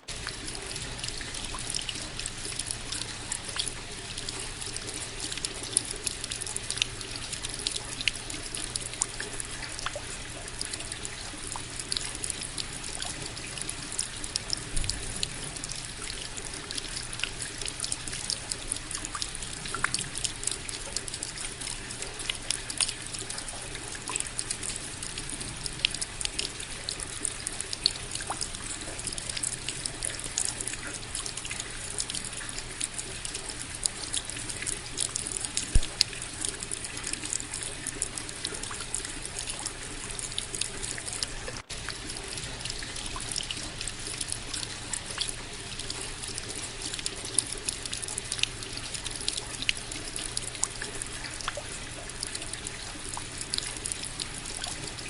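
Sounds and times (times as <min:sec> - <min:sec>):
continuous rain wash: 0:00.0 - 0:55.0
rain drops splashing: 0:00.0 - 0:55.0.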